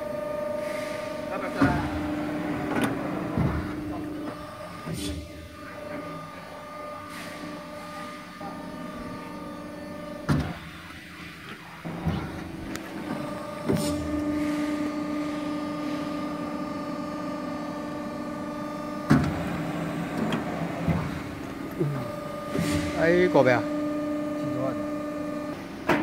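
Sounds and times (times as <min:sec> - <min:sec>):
hydraulic pump humming: 0:00.0 - 0:26.0.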